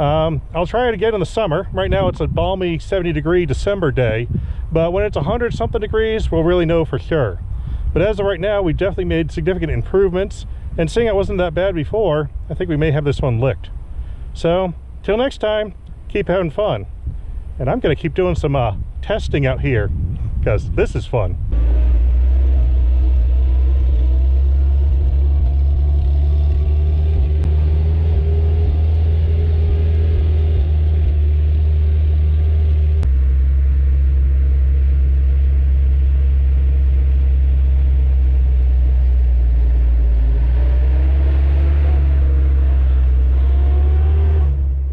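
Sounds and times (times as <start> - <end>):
jeep engine driving: 0.0 - 19.6, 20.4 - 44.9
steady low rumble: 0.0 - 44.9.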